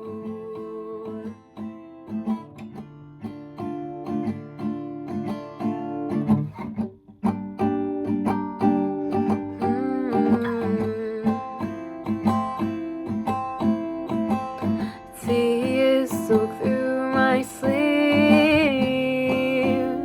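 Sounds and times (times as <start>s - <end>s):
acoustic guitar chords: 0.0s - 20.0s.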